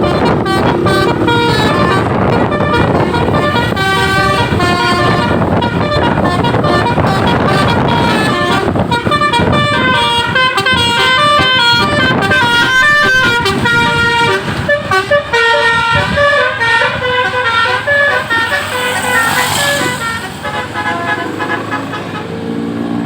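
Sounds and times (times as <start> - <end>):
bus horn playing a tune: 0.0 - 22.8.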